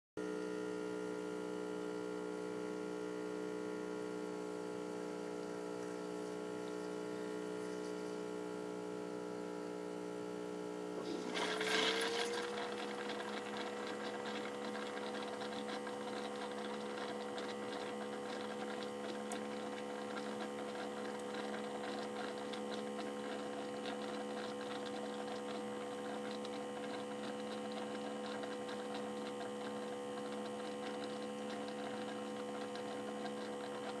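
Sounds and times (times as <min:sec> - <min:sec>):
espresso machine humming: 0:00.2 - 0:34.0.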